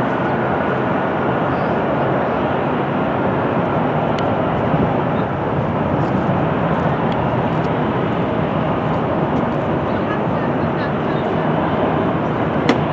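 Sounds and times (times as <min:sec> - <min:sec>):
jet engines running: 0:00.0 - 0:12.9.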